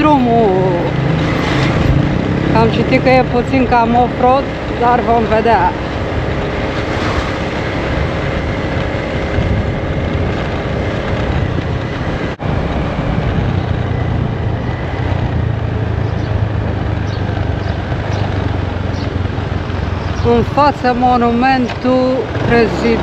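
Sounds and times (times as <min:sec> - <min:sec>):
scooter engine hum: 0:00.0 - 0:23.0
rushing noise: 0:00.4 - 0:20.9.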